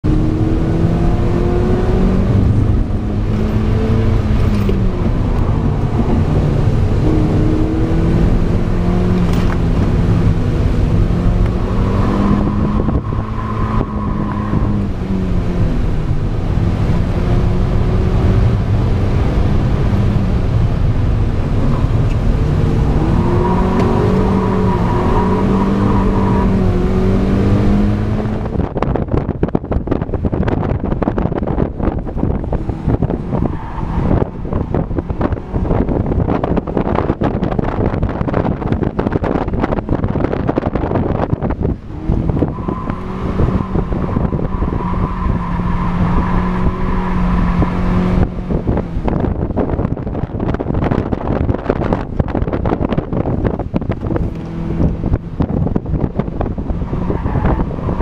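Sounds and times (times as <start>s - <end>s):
car engine revving: 0.0s - 58.0s
wind rush: 0.0s - 58.0s.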